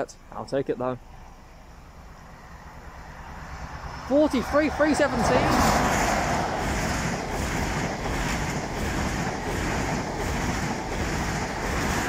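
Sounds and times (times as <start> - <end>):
train passing at speed: 1.0 - 12.0.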